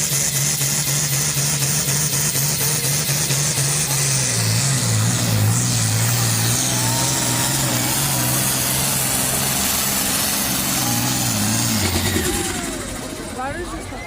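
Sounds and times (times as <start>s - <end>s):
loud engine running: 0.0s - 14.0s.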